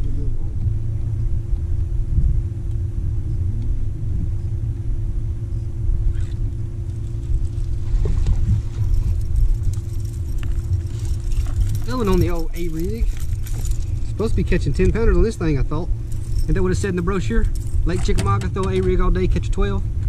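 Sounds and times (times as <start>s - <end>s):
electric trolling motor hum: 0.0s - 20.0s
wind buffeting microphone: 0.0s - 20.0s.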